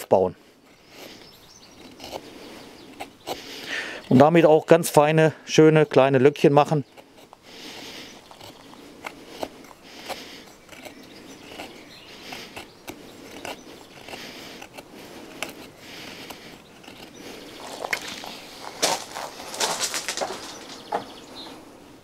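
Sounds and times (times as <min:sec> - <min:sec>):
knife shaving wood: 0:00.6 - 0:04.3, 0:06.5 - 0:21.0.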